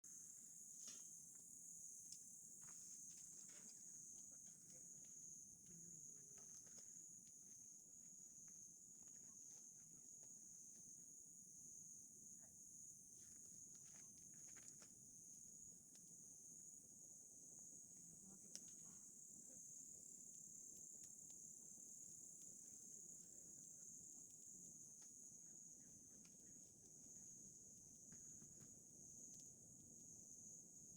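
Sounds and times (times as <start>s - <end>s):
crickets trilling: 0.1s - 30.9s.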